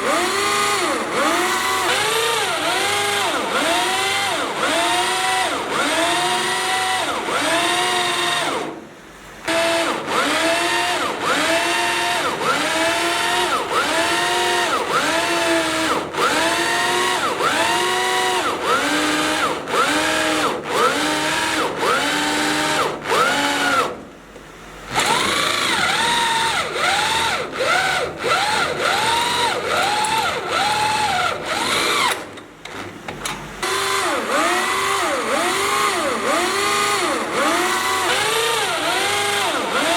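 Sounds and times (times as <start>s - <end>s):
power drill drilling into steel: 0.0s - 8.8s, 9.4s - 24.0s, 24.9s - 32.3s, 33.6s - 39.9s.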